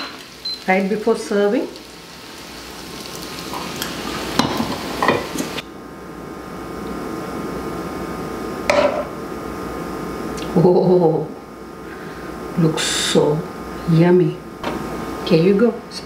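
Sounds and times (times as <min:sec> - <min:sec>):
food sizzling in a pan: 0:00.0 - 0:15.6.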